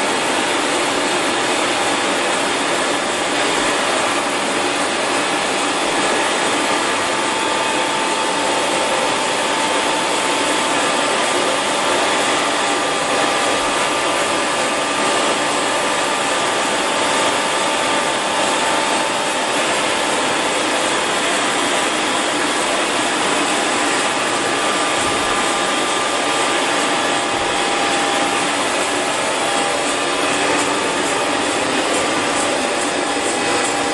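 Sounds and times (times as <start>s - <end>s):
milling machine running: 0.0s - 33.9s.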